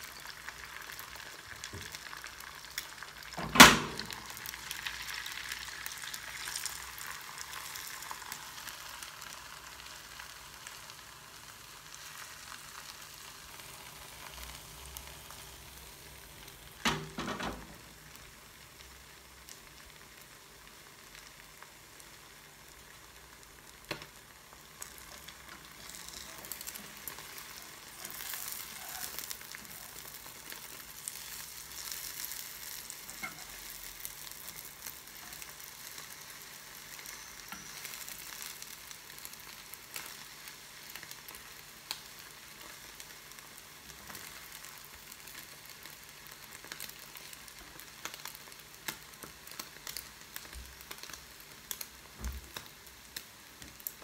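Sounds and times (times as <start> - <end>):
eggs sizzling in a frying pan: 0.0 - 54.0.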